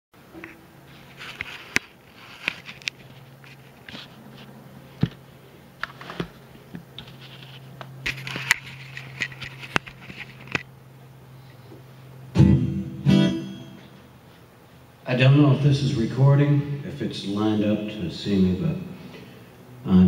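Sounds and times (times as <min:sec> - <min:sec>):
steady low hum: 0:00.2 - 0:20.0.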